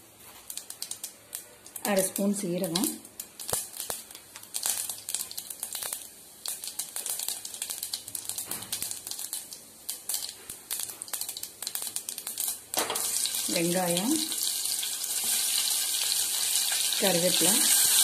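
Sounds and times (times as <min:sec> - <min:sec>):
oil sizzling: 0:00.1 - 0:18.0
seeds popping in hot oil: 0:00.2 - 0:18.0.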